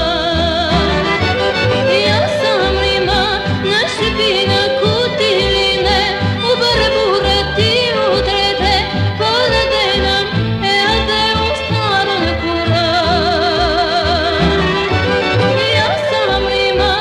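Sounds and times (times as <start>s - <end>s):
instrumental accompaniment: 0.0s - 17.0s
person singing ornamented melody: 0.7s - 10.2s, 10.8s - 17.0s.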